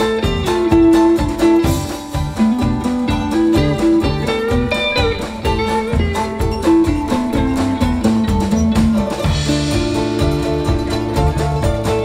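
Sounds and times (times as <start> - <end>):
bass notes: 0.0 - 12.0
drum kit: 0.0 - 12.0
guitar melody: 0.0 - 12.0.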